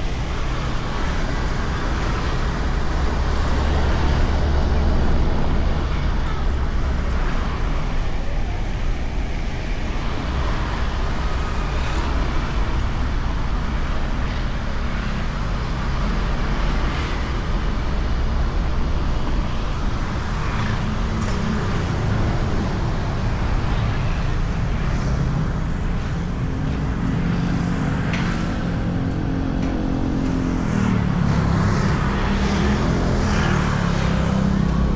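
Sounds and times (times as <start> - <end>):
road traffic: 0.0 - 34.9.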